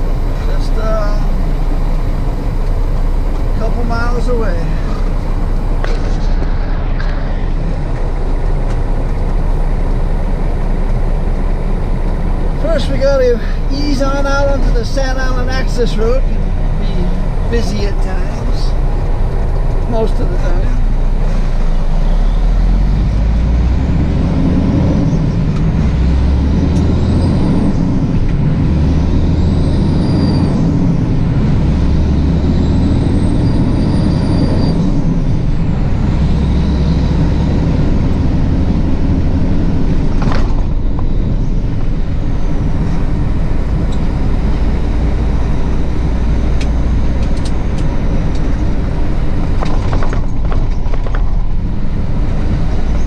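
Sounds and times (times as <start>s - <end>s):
diesel truck engine drone: 0.0s - 53.0s.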